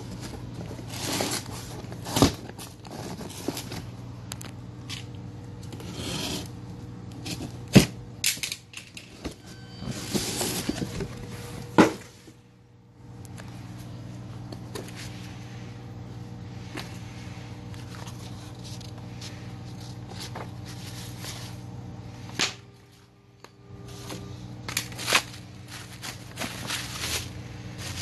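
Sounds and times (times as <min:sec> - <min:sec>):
cardboard and tape rustling: 0:00.0 - 0:12.3, 0:16.6 - 0:23.0, 0:23.8 - 0:28.0.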